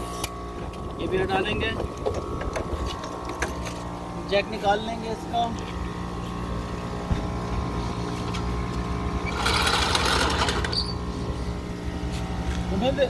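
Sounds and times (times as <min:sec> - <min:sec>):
motor humming: 0:00.0 - 0:12.7.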